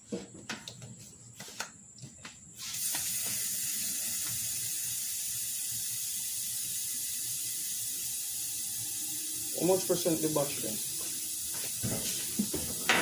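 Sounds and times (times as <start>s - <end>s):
air hissing into tire: 2.6s - 13.0s.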